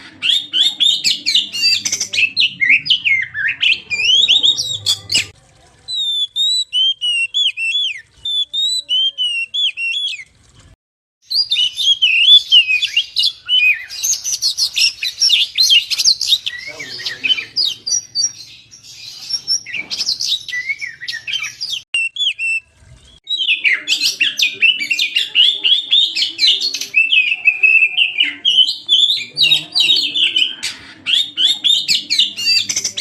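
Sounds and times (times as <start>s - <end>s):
bird singing whistles and chatter: 0.0s - 5.3s, 5.9s - 10.3s, 11.3s - 33.0s.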